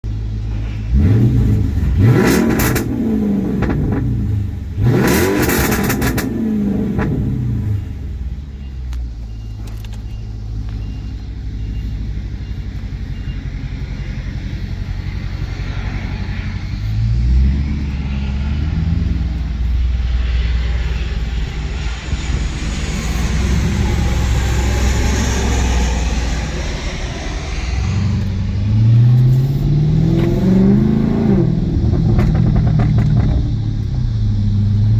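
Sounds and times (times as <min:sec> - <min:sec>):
exhaust pops and crackles: 0:00.0 - 0:24.9, 0:27.9 - 0:34.9
car engine revving: 0:00.0 - 0:34.9.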